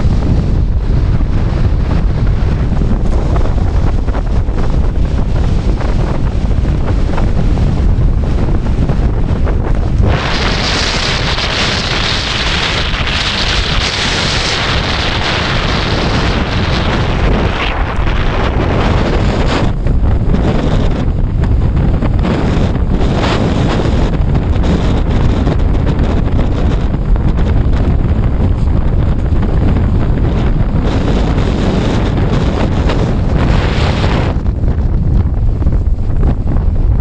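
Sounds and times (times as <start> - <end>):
gale wind buffeting microphone: 0.0 - 37.0.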